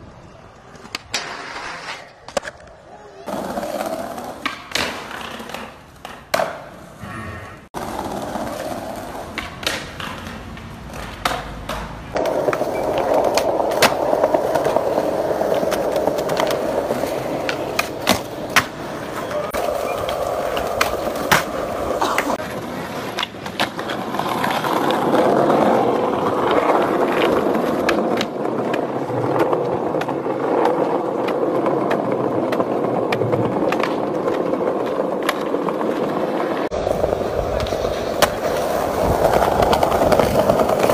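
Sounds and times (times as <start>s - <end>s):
skateboard wheels rolling on concrete: 0.0s - 40.9s
skateboard pops and landings: 0.7s - 6.7s, 7.8s - 22.4s, 23.0s - 40.9s
skateboard trucks grinding on ledge: 7.8s - 40.9s.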